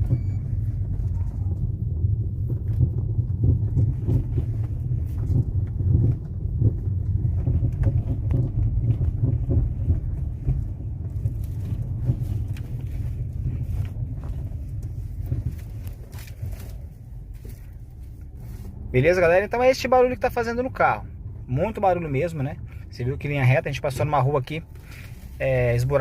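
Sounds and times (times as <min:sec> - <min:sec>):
suspension knocking: 0:00.0 - 0:23.6
low road rumble: 0:00.0 - 0:26.0.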